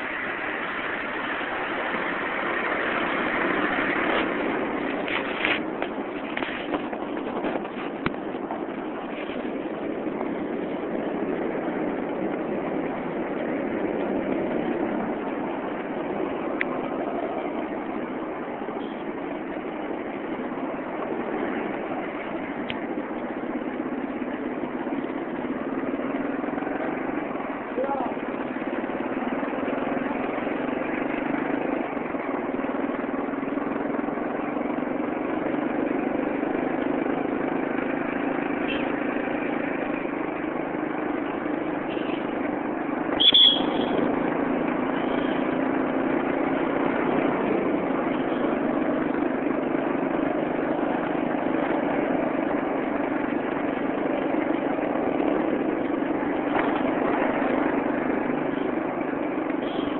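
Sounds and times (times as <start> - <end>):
road noise: 0.0 - 59.9
vehicle engine running: 0.0 - 59.9.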